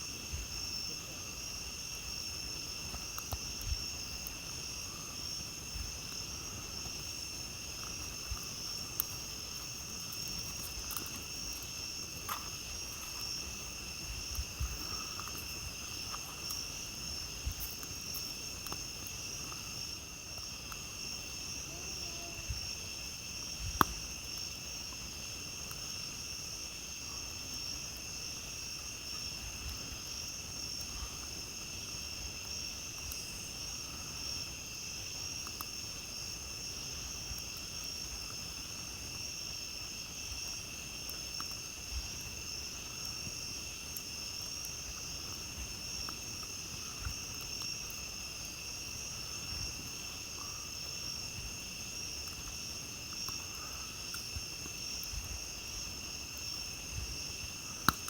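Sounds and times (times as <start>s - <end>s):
campfire crackling and popping: 0.0s - 58.0s
crickets trilling: 0.0s - 58.0s.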